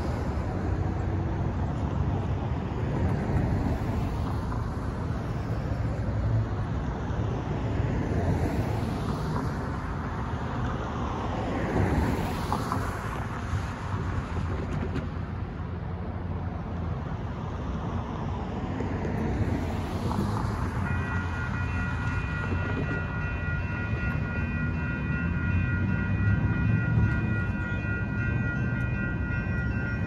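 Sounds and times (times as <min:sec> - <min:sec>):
cars driving past: 0:00.0 - 0:30.0.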